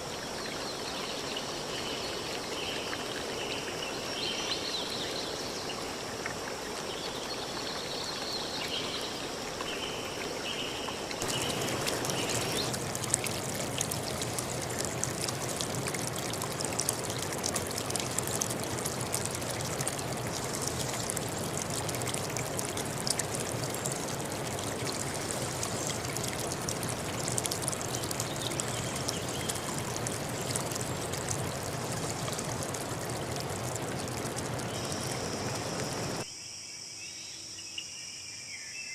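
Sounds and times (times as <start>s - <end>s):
soft forest background: 0.0s - 38.9s
stream rushing over rocks: 4.4s - 36.2s.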